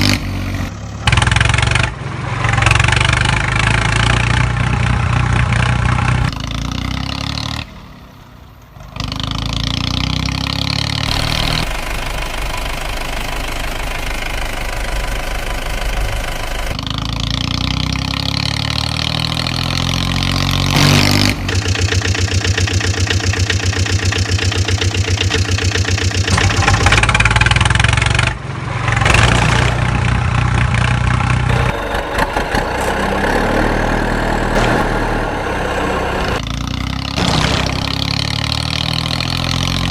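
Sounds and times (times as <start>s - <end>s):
vehicle engine idling and revving: 0.0s - 39.9s.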